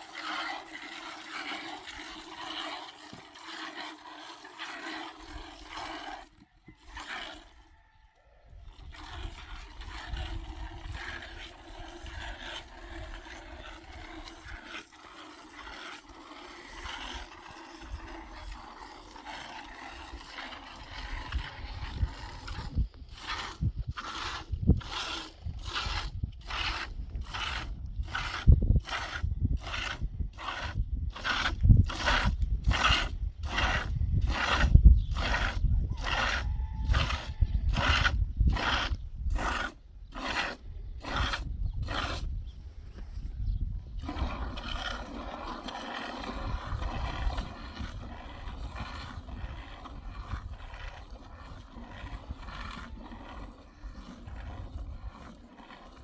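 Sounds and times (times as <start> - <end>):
milk squirting into a pail: 0.0 - 7.7, 8.5 - 42.3, 43.9 - 56.0.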